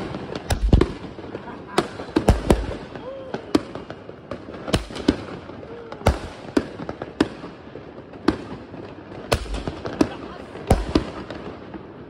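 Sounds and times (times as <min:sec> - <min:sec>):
firecracker bangs: 0:00.0 - 0:07.5, 0:09.2 - 0:11.6
background crackling: 0:00.0 - 0:12.0.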